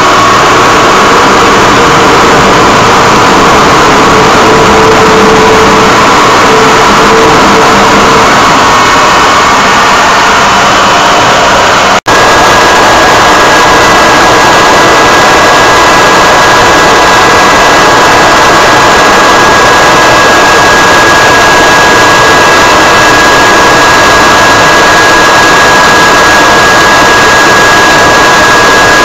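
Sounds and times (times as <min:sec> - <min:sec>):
jet engine roar with whine: 0:00.0 - 0:29.0.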